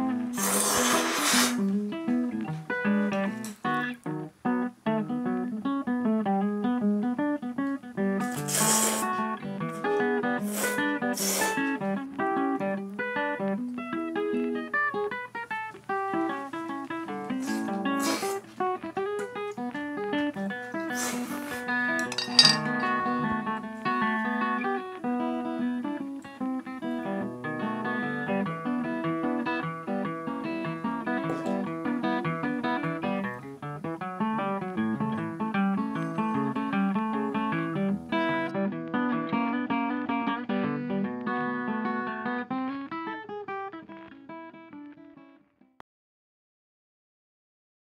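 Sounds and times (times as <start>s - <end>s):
acoustic guitar music: 0.0s - 45.7s.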